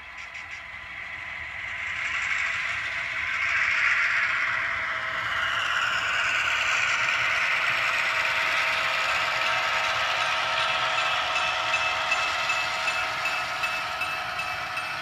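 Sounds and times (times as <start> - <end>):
model train motors whirring: 0.0 - 15.0.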